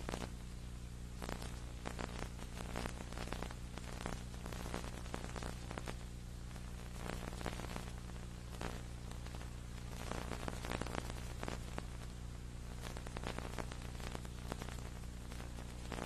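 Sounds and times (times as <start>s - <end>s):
crackling static hiss: 0.0s - 16.0s
low electrical hum: 0.0s - 16.0s.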